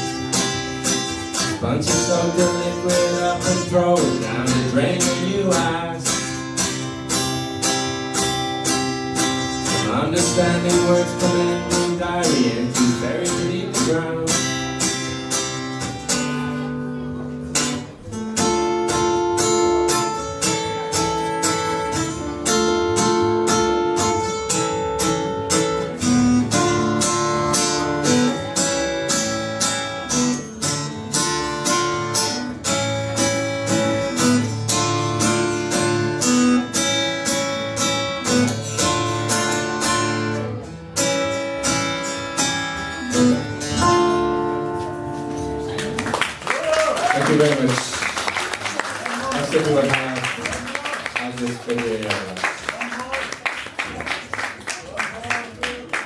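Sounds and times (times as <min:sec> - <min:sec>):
acoustic guitar strumming chords: 0:00.0 - 0:46.2.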